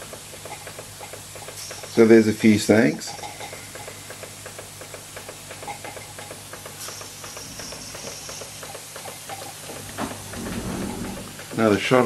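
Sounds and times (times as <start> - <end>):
higher steam hiss: 0.0 - 12.0
steam engine ticking: 0.0 - 12.0
steam hissing: 0.0 - 12.0.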